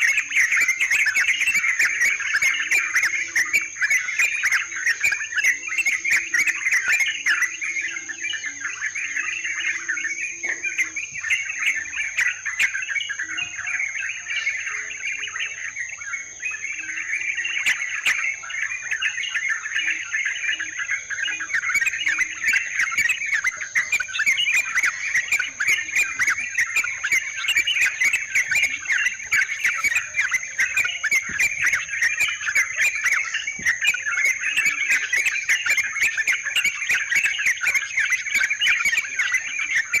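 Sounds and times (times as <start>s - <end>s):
birds chattering and calling: 0.0s - 40.0s
high insect whine: 0.0s - 40.0s.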